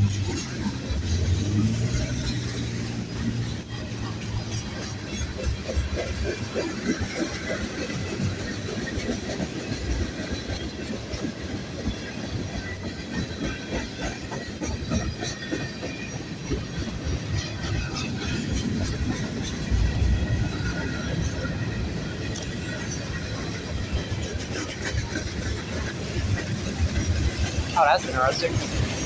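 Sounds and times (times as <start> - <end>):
train wheels clacking over rail joints: 0.0 - 29.0.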